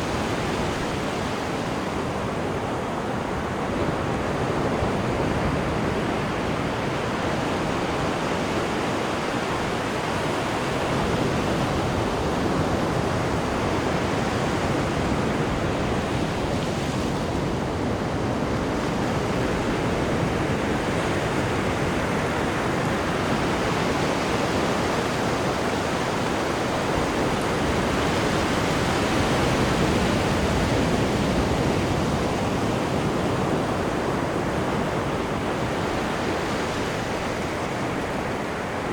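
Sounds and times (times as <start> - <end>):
ship wake water rushing: 0.0 - 38.9.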